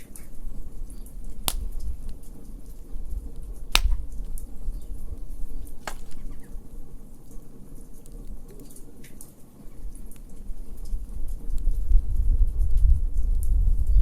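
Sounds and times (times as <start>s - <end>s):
sharp pops of fire: 0.0s - 11.7s
wood fire crackling: 0.0s - 13.5s.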